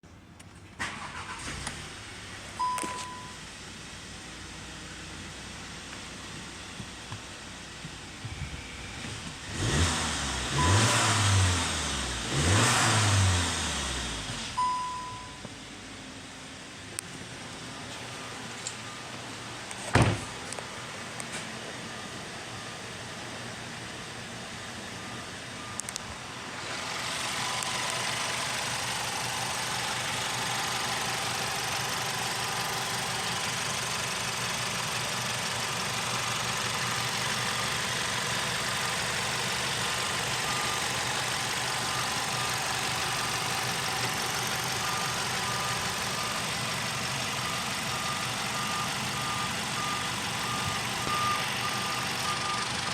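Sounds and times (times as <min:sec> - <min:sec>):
car engine idling: 0:00.9 - 0:12.3, 0:13.1 - 0:52.9.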